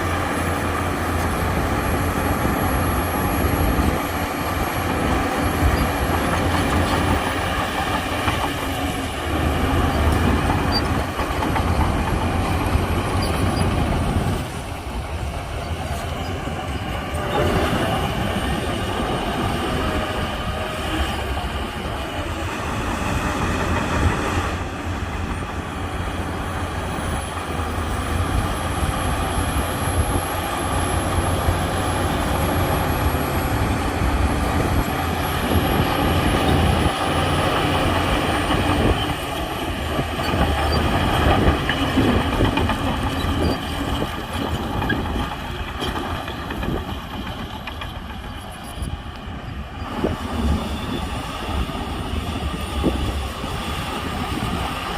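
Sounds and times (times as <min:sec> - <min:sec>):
bulldozer diesel engine under load: 0:00.0 - 0:54.9
steel tracks clanking: 0:00.0 - 0:54.9.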